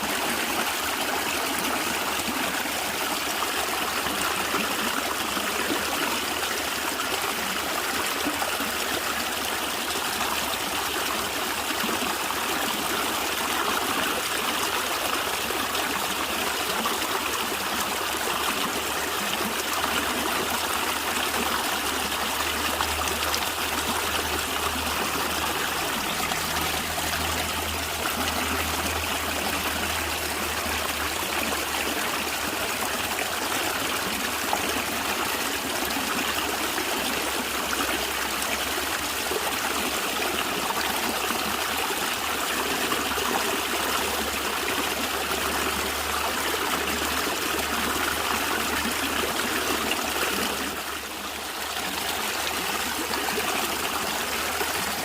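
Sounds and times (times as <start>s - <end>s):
running water gurgling: 0.0s - 55.0s.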